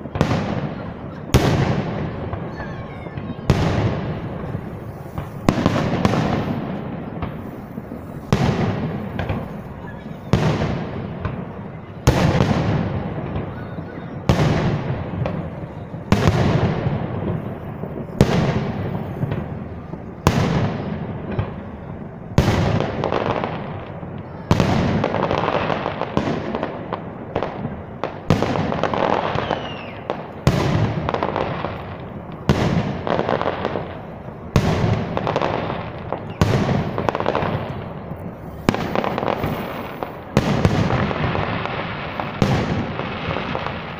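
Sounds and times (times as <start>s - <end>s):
fireworks bursting with rumble: 0.0s - 43.9s.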